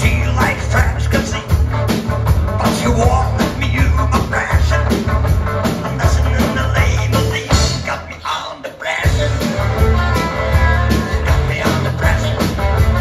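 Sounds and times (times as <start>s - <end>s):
electric guitar: 0.0s - 8.1s, 9.0s - 13.0s
drum kit beat: 0.0s - 8.2s, 9.0s - 13.0s
electric bass: 0.0s - 8.3s, 9.0s - 13.0s.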